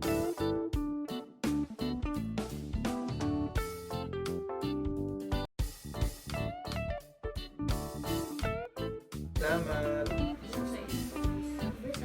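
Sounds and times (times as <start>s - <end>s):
guitar music over a beat: 0.0s - 12.0s.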